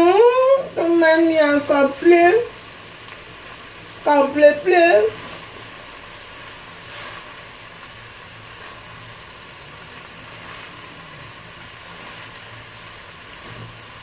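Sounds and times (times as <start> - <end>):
gas burner hum: 0.0 - 14.0
rice frying in a pan: 0.0 - 14.0.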